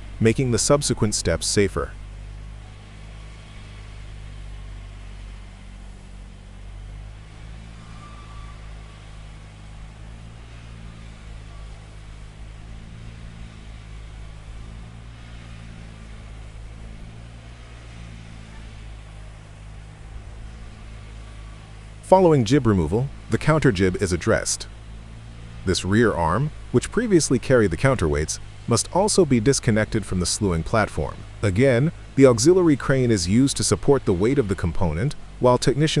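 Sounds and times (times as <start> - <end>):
heavy engine running: 0.0 - 36.0.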